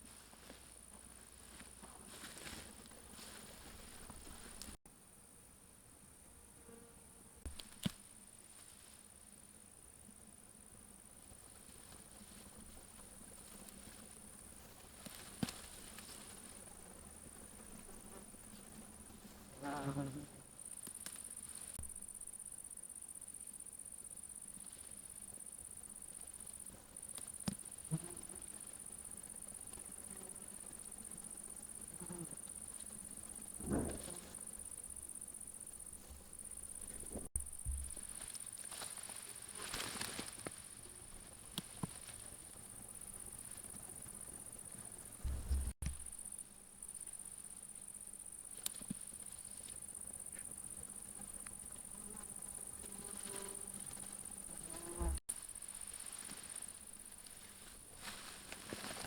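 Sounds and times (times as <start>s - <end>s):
insects chirring: 7.5s - 59.0s.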